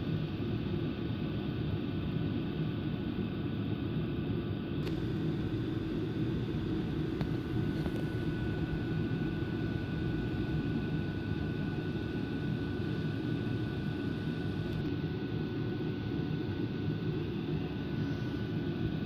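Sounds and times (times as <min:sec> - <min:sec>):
faint high whine: 0:00.0 - 0:19.0
low rumbling background noise: 0:00.0 - 0:19.0.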